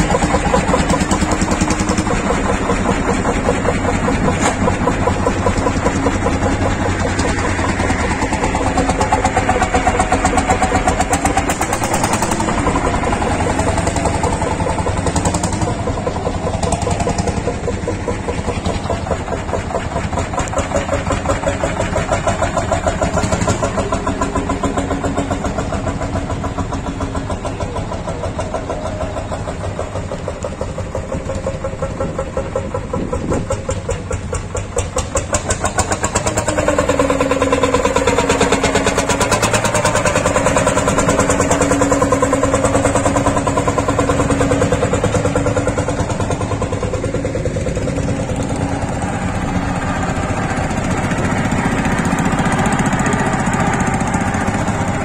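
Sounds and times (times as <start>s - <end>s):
tractor engines chugging: 0.0s - 55.0s.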